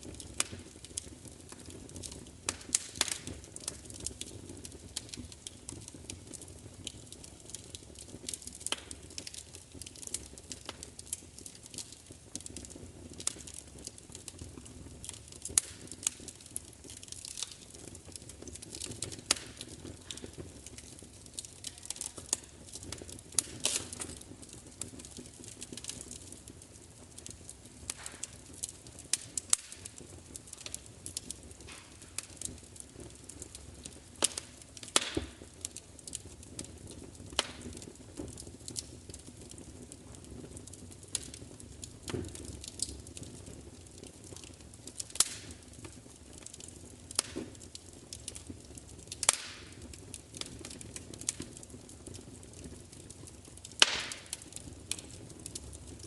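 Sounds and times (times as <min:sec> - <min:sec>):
low rush of flames: 0:00.0 - 0:56.0
wood fire pops and snaps: 0:00.0 - 0:56.0.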